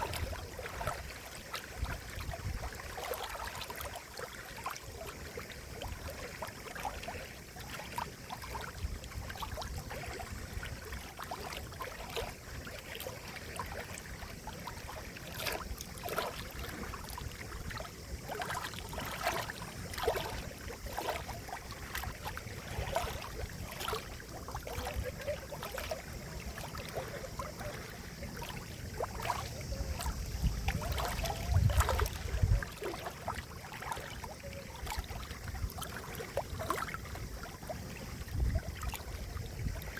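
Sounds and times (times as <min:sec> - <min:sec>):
water splashing and gurgling: 0:00.0 - 0:39.9.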